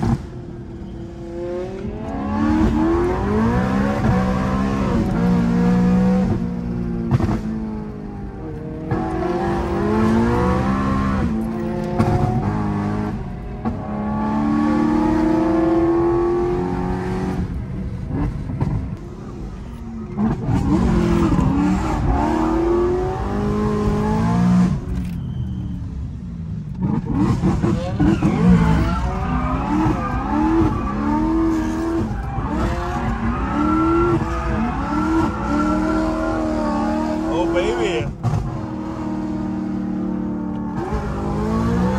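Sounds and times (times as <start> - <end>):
car engine accelerating hard: 0.0 - 25.2, 26.1 - 41.9.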